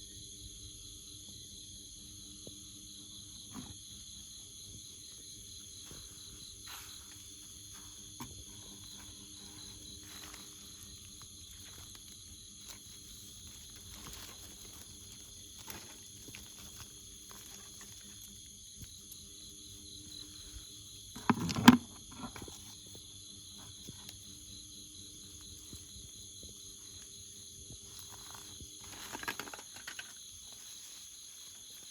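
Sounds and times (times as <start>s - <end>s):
chorus of insects: 0.0s - 31.9s.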